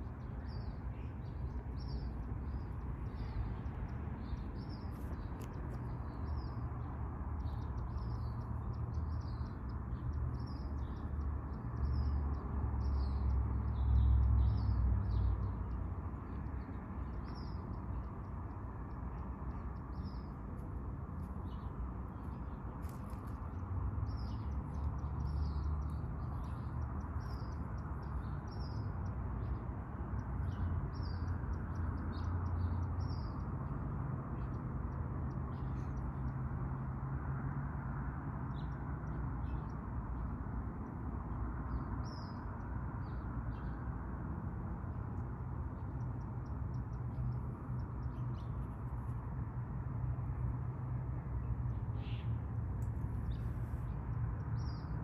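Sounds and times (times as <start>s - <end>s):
small birds chirping: 0.0s - 44.1s, 44.8s - 55.0s.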